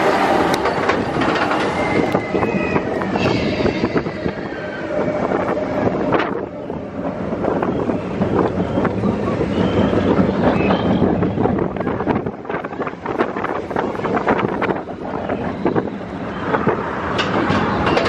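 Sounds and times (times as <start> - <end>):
roller coaster wheels rumbling: 0.0 - 18.0
wheels squealing on rails: 0.0 - 18.0.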